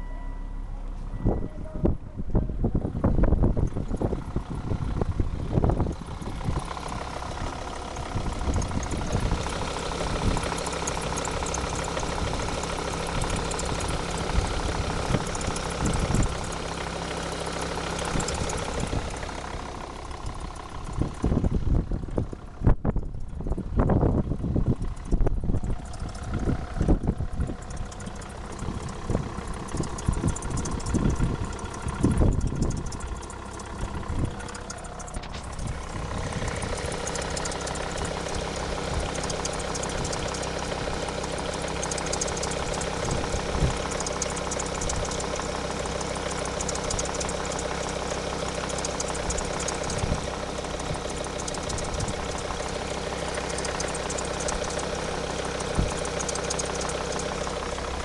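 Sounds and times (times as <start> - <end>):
diesel engine idling: 0.0 - 58.0
low thumps and rumbles: 0.0 - 58.0.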